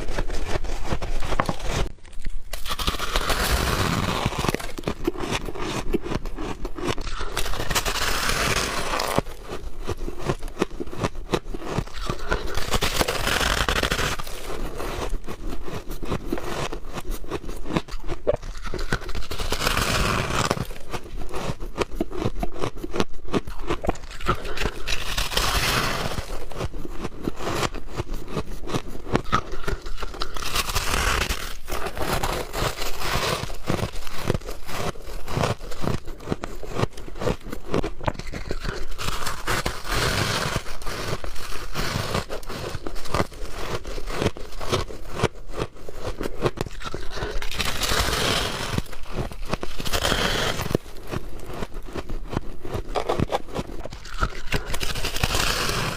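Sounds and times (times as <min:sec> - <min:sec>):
frost being chewed crunching: 0:00.0 - 0:55.9.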